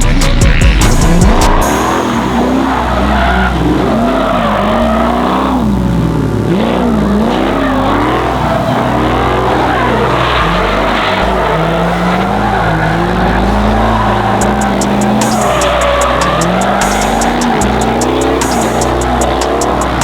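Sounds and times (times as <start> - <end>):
car engine revving: 0.0 - 20.0
tyres squealing: 0.0 - 20.0.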